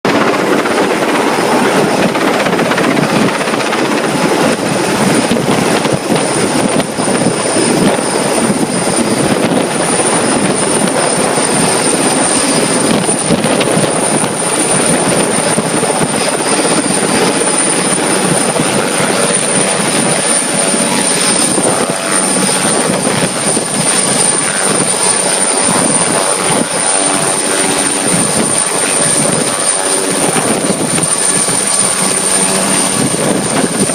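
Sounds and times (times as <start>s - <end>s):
helicopter rotor and engine: 0.0s - 33.9s
high-pitched whine: 0.1s - 33.9s.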